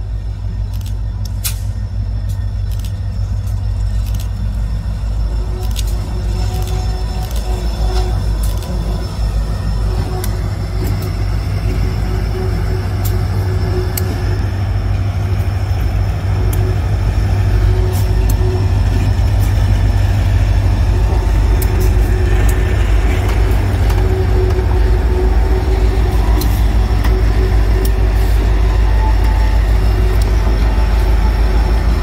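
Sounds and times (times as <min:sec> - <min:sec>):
diesel locomotive engine: 0:00.0 - 0:32.0.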